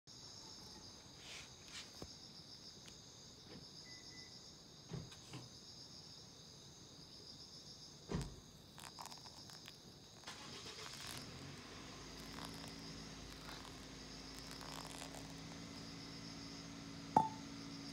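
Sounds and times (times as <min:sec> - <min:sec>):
insects calling: 0:00.1 - 0:17.9.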